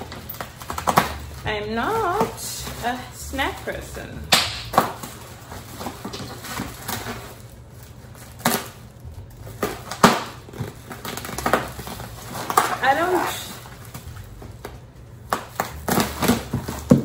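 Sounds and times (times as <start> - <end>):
paper and bubble wrap rustling: 0.0 - 17.0.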